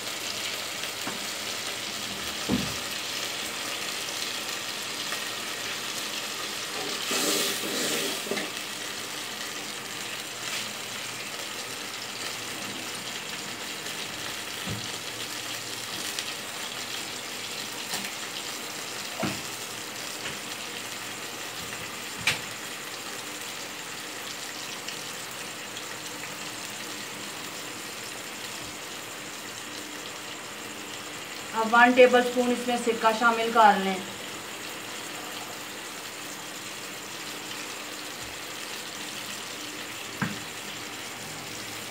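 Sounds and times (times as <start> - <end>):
broth boiling and sizzling: 0.0 - 41.9.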